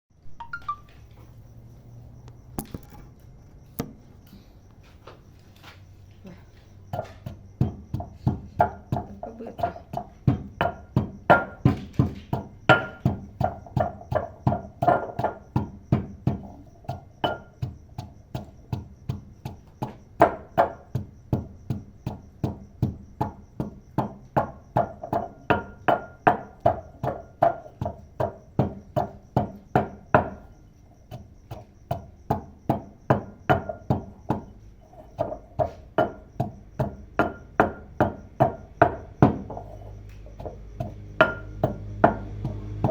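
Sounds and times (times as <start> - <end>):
pestle pounding in a mortar: 6.7 - 42.9.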